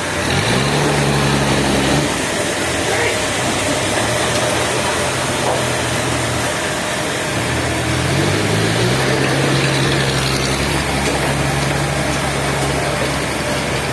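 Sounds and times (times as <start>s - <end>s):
engine running steadily: 0.0s - 13.9s.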